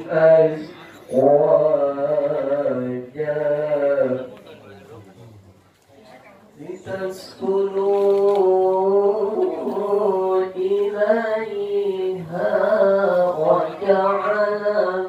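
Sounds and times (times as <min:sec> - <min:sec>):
man chanting into a microphone: 0:00.0 - 0:04.5, 0:06.7 - 0:15.0.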